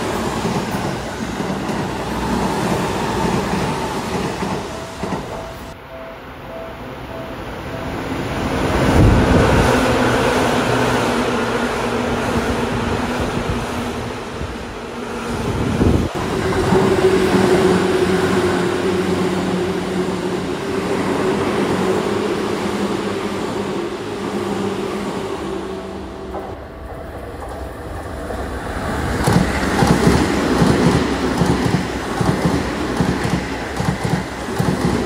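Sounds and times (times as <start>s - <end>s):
train running hum: 0.0s - 35.0s.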